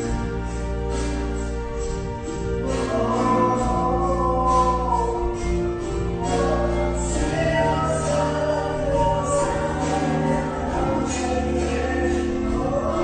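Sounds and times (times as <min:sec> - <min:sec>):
bass line: 0:00.0 - 0:13.0
singing over held chords: 0:02.3 - 0:13.0.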